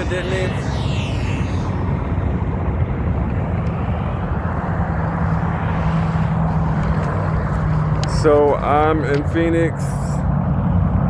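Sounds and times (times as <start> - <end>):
low engine hum: 0.0 - 11.0
road traffic rumble: 0.0 - 11.0.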